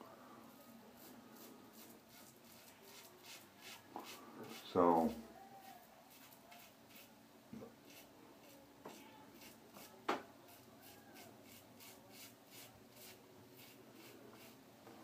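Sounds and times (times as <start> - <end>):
razor scraping stubble: 1.0 - 7.1, 7.8 - 14.6.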